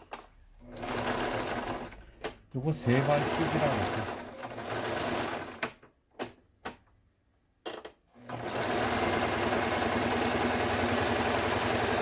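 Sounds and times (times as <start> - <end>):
sewing machine stitching: 0.0 - 5.8, 8.1 - 12.0.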